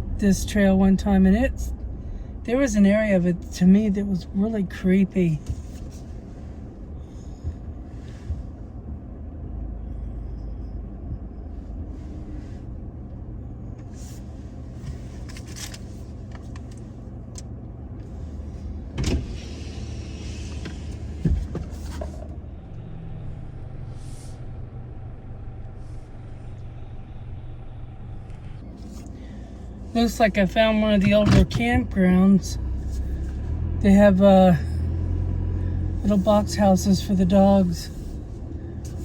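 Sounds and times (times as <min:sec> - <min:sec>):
truck engine droning: 0:00.0 - 0:39.0.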